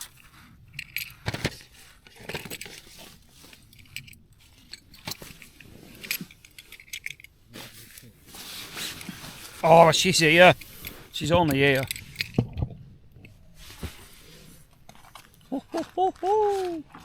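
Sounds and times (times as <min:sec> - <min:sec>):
small metal items clinking: 0:00.0 - 0:13.9
bags rustling: 0:00.0 - 0:17.0.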